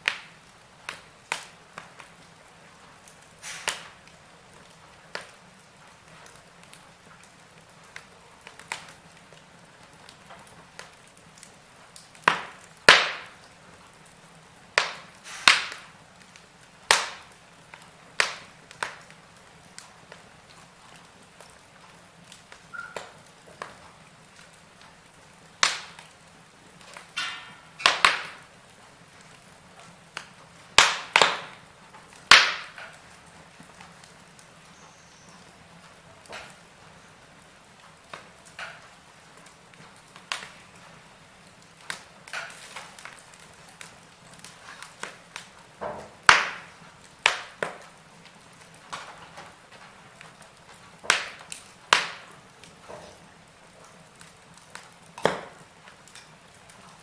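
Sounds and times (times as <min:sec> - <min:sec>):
faint steady hiss: 0:00.0 - 0:57.0
wood fire crackling: 0:00.0 - 0:57.0.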